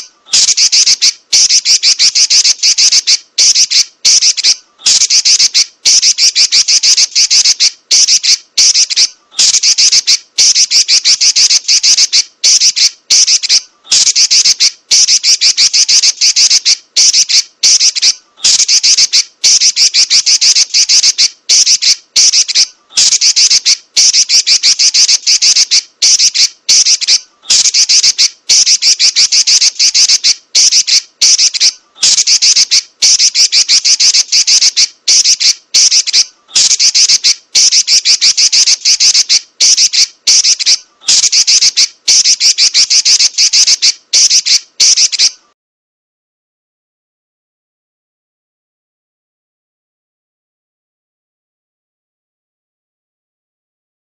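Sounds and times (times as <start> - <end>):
bird chattering high-pitched notes: 0.0 - 45.4.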